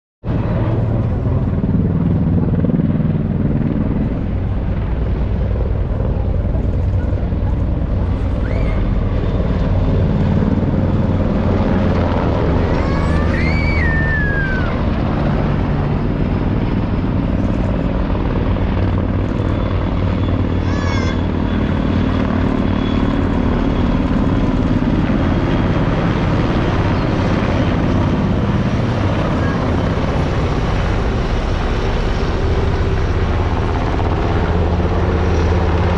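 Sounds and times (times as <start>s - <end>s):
helicopter rotors and engines: 0.2s - 35.9s.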